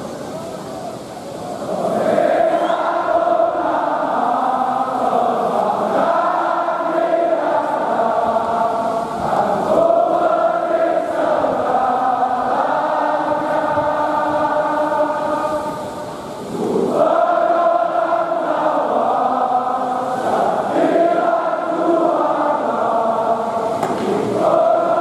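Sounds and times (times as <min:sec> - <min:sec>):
crowd singing a chant: 0:01.4 - 0:25.0.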